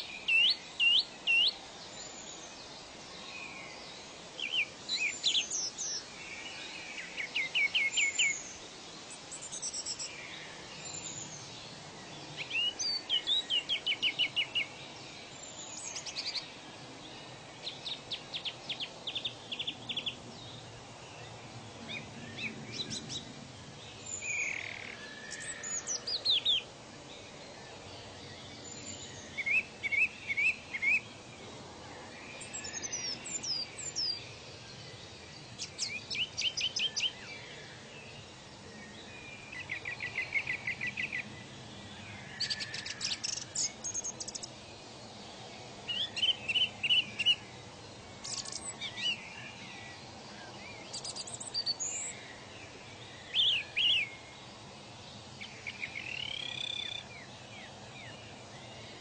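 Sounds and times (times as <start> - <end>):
birds singing and calling: 0.0 - 59.0
soft steady hiss: 0.0 - 59.0.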